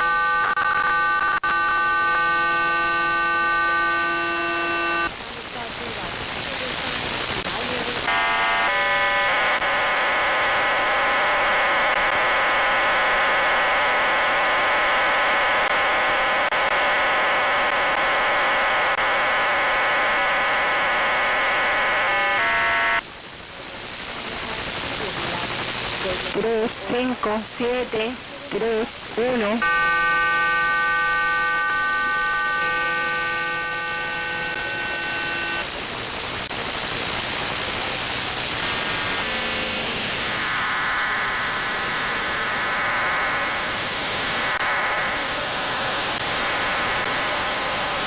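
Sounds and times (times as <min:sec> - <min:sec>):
buzz of parallel radio tones: 0:00.0 - 0:48.0
receiver hiss: 0:00.0 - 0:48.0
shortwave static: 0:00.0 - 0:48.0.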